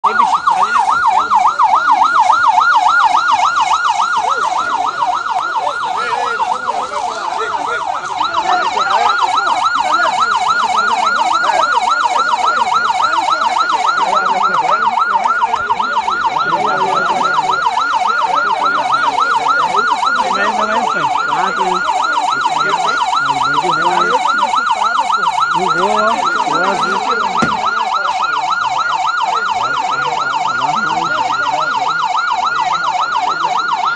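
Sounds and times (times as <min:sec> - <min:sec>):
police siren yelping: 0:00.0 - 0:33.9.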